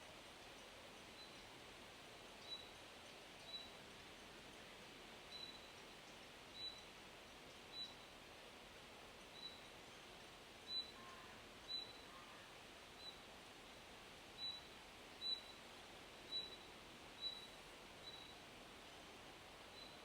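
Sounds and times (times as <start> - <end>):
wind in leaves: 0.0 - 20.0.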